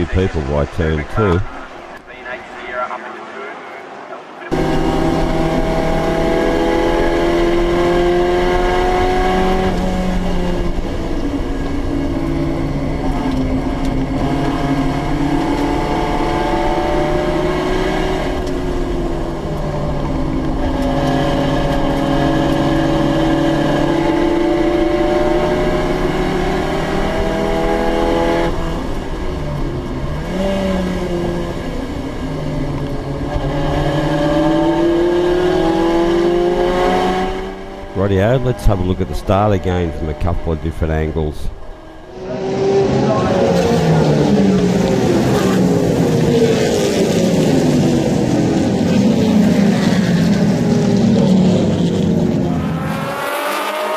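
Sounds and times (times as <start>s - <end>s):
racing car engines: 0.0s - 53.9s.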